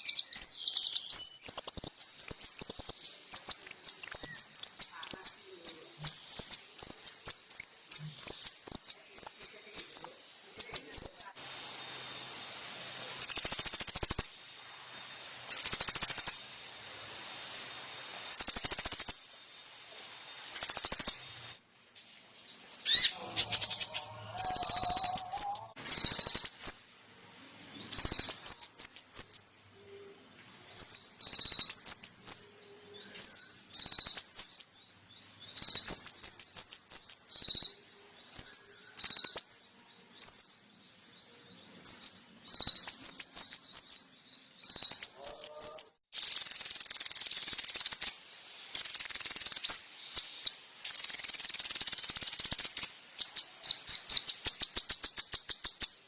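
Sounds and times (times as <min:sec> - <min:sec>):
sunbird chirping and trilling: 0:00.0 - 0:56.0.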